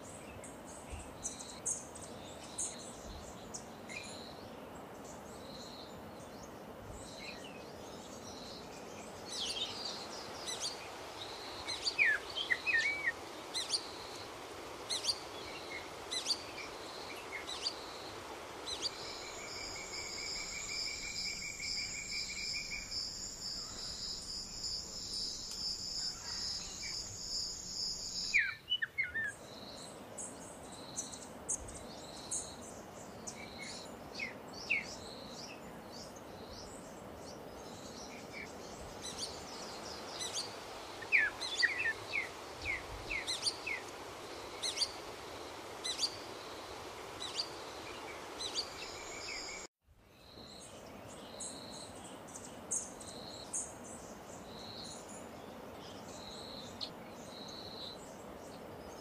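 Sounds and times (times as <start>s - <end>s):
soft background hiss: 0.0s - 59.0s.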